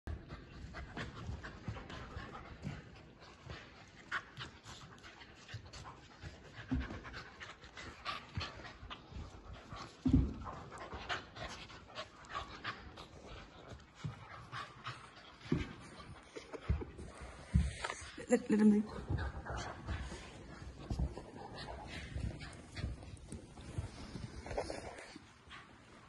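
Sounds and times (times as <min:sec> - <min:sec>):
dogs panting: 0:00.1 - 0:26.0
scuffs and clicks of paws: 0:00.1 - 0:26.0.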